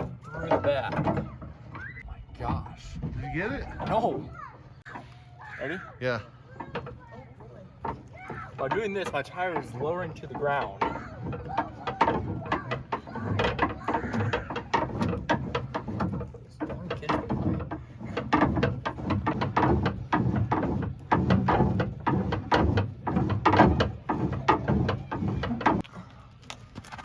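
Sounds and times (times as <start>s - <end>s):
winch clicking and ratcheting: 4.8s - 27.0s.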